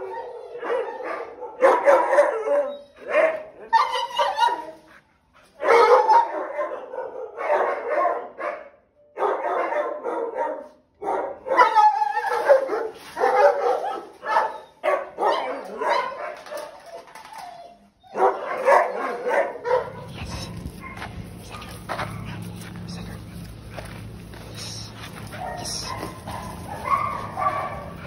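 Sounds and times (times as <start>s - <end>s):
dogs barking: 0.0s - 4.8s, 5.6s - 17.0s, 17.6s - 28.0s.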